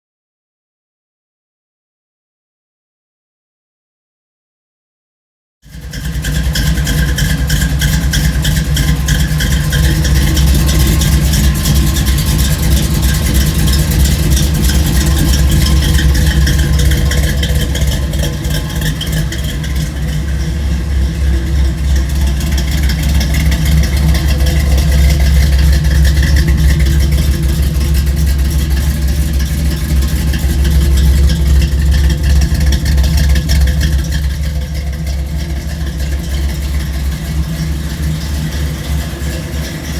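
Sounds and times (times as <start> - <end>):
car engine exhaust rumble: 5.6 - 39.9.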